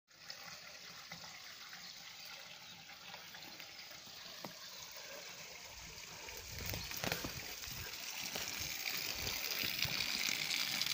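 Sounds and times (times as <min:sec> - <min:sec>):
water trickling into pool: 0:00.1 - 0:10.9.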